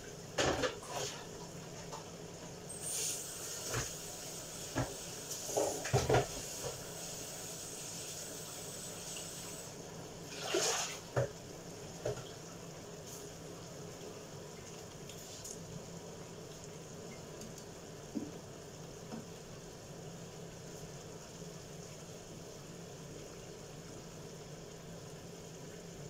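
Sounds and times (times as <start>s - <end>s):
food simmering in a frying pan: 0.0s - 10.3s, 11.0s - 26.0s.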